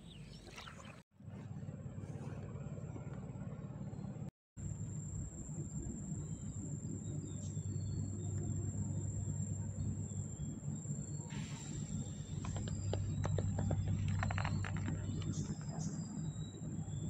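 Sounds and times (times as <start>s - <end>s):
low motor rumble: 1.1s - 17.0s.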